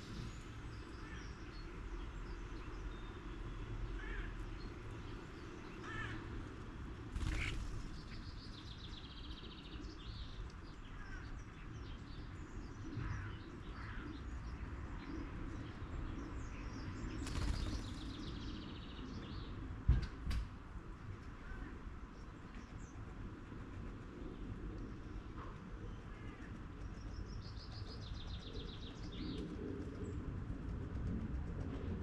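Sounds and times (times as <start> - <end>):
songbirds chirping and calling: 0.0 - 20.2, 20.9 - 32.0
low background hum: 0.0 - 32.0.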